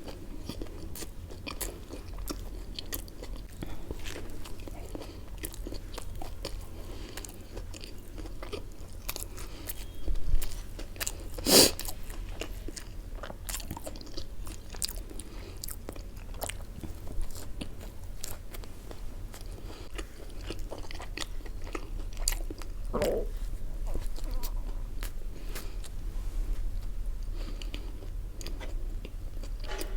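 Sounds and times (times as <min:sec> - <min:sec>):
chewing and crunching food: 0:00.0 - 0:29.9.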